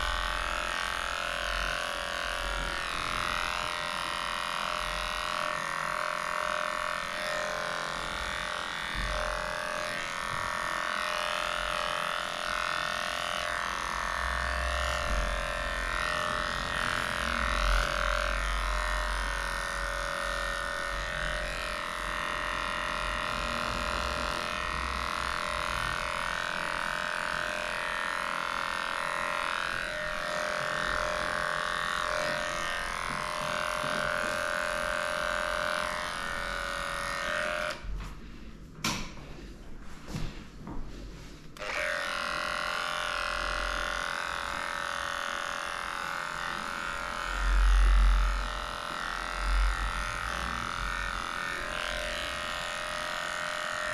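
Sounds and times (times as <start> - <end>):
electric dog clipper humming: 0.0 - 37.9, 41.6 - 53.9.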